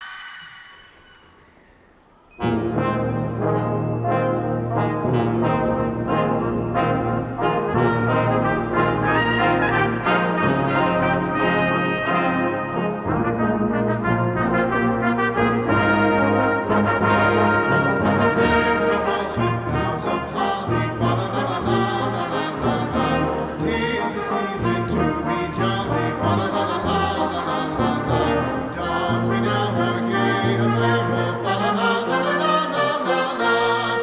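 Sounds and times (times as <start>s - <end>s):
brass band playing: 2.3s - 34.0s.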